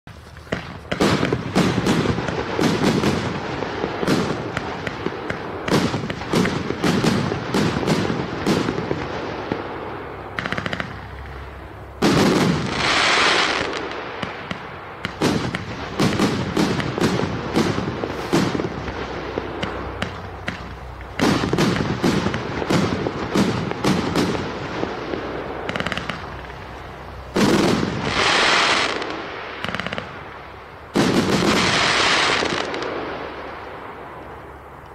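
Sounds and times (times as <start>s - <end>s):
firework crackling: 0.1s - 34.9s
firework reports: 0.1s - 34.9s.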